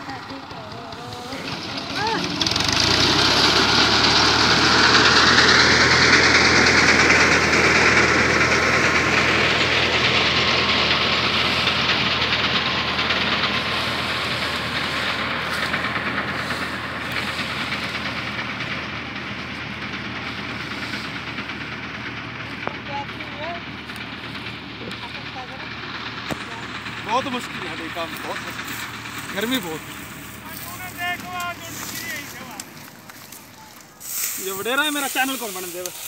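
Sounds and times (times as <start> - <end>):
reaper mechanical clatter: 0.0 - 33.9
tractor engine running: 0.0 - 36.0.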